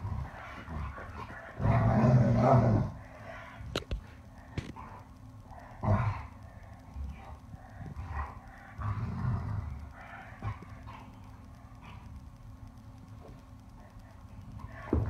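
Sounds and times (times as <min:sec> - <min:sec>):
dogs grunting: 0:00.0 - 0:12.3.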